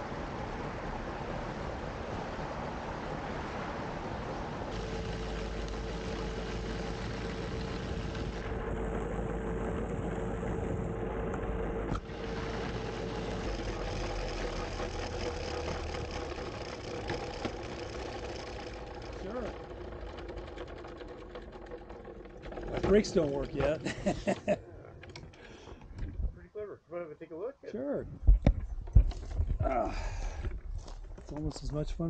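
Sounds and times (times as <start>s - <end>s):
electric motor hum: 0.0s - 26.4s
wheels rumbling on rails: 0.0s - 26.5s.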